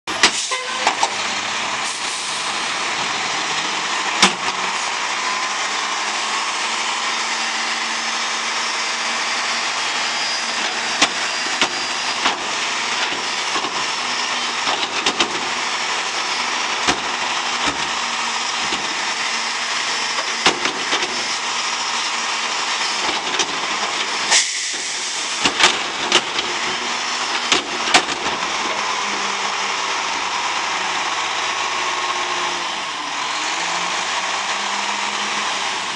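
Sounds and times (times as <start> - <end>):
garbage truck engine running: 0.1 - 35.9.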